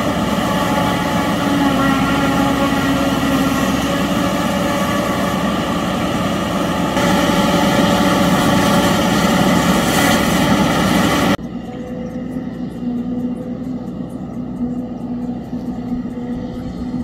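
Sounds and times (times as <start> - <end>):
tractor engine droning under load: 0.0 - 17.0.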